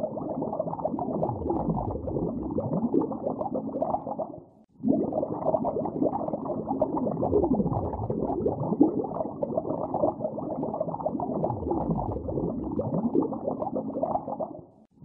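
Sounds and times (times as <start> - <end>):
underwater bubbling and gurgling: 0.0 - 14.7.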